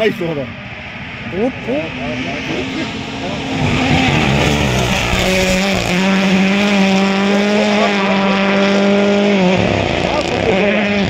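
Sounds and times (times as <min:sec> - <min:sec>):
rally car engine pulling hard: 0:01.0 - 0:11.0.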